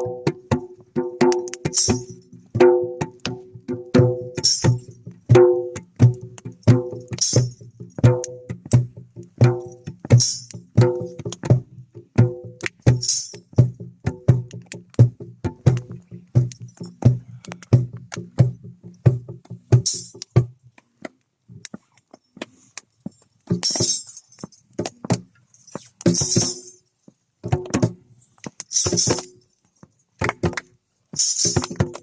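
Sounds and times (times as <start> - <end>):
shaker-like rattling: 0.0 - 11.7, 12.4 - 20.5, 22.5 - 26.9, 27.6 - 32.0.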